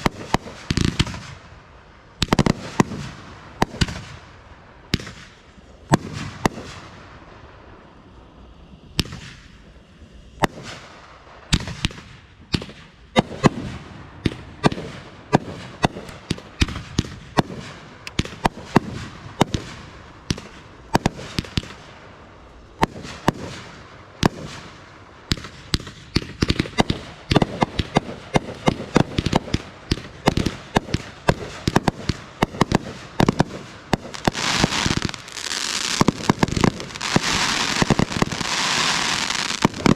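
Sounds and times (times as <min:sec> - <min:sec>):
fireworks firing sharp bangs: 0:00.0 - 0:07.9, 0:08.8 - 0:39.9
fireworks crackling barrage: 0:00.0 - 0:39.9.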